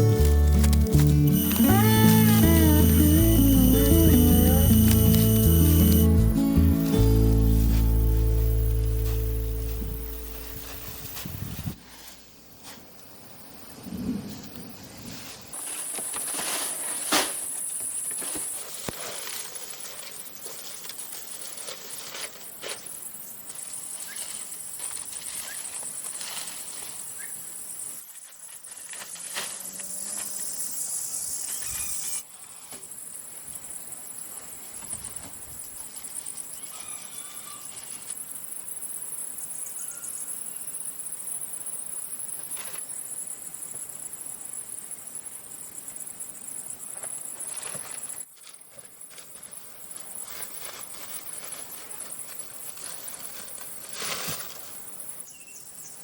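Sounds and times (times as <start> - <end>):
insects buzzing chorus: 0.0 - 11.8, 12.6 - 56.0.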